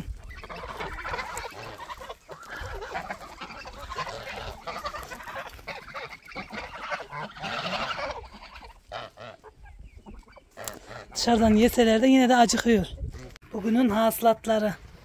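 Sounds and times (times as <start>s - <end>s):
geese calling: 0.0s - 15.0s.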